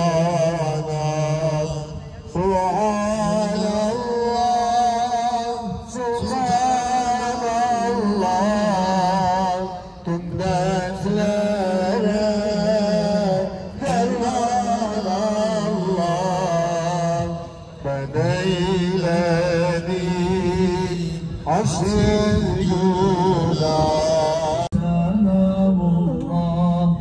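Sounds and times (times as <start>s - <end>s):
man singing a hymn: 0.0s - 27.0s.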